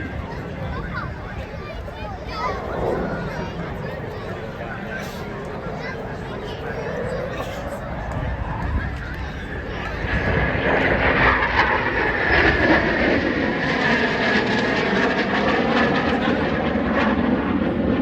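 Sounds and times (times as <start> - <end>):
fighter jet engines passing: 0.0 - 18.0
high jet whine: 0.0 - 18.0.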